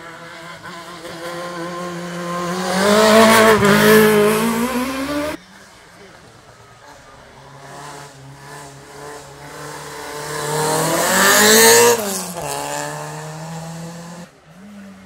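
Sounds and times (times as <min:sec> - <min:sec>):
race car accelerating past: 0:00.0 - 0:05.4, 0:07.4 - 0:15.0.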